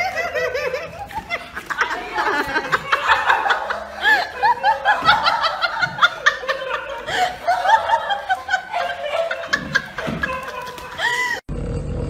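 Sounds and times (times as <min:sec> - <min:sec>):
people laughing: 0:00.0 - 0:11.5.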